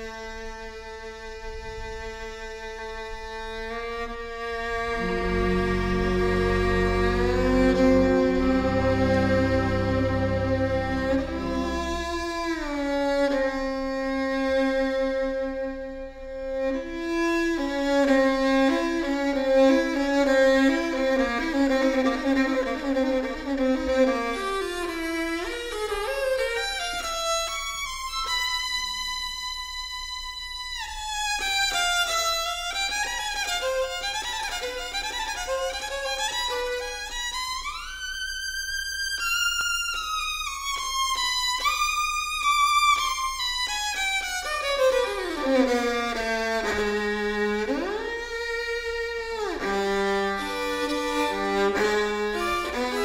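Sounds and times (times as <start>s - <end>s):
solo violin playing: 0.0s - 53.0s.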